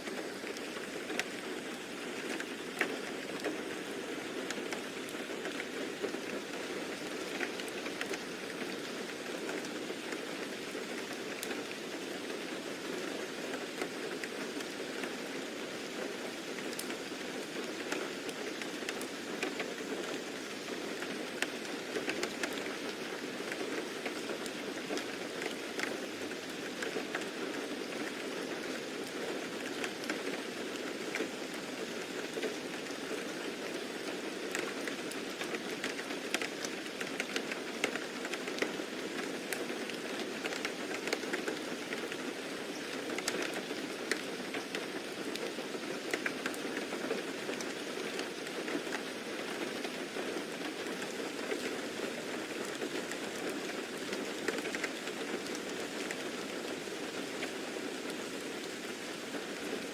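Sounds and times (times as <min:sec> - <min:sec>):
raindrops ticking: 0:00.0 - 0:12.1, 0:16.5 - 0:28.2, 0:29.6 - 0:49.1, 0:49.7 - 0:59.8
rain pattering: 0:00.0 - 0:59.9.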